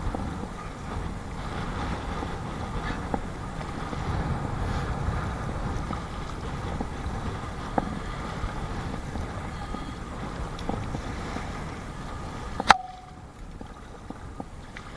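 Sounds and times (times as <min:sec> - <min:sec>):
water sloshing and splashing: 0:00.0 - 0:14.9
wind buffeting microphone: 0:00.0 - 0:14.9.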